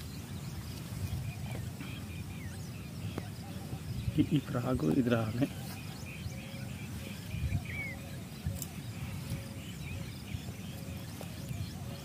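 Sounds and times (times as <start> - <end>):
bird chirps: 0.0 - 12.0
wind rumble on microphone: 0.0 - 12.0.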